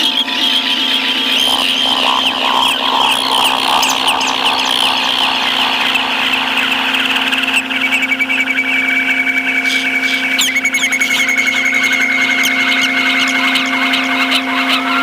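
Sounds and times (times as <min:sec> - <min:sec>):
electronic drone: 0:00.0 - 0:15.0
warbling high tone: 0:00.8 - 0:13.0.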